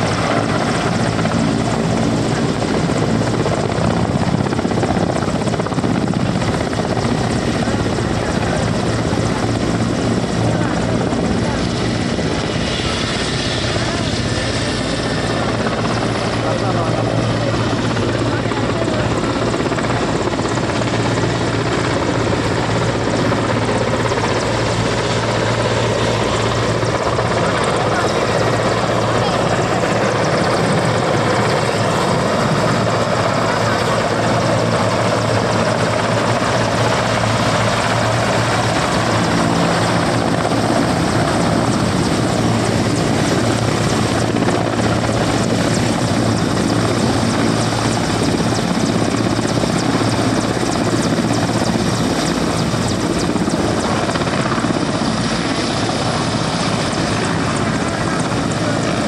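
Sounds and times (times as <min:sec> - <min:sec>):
helicopter engines and rotors: 0:00.0 - 0:59.0.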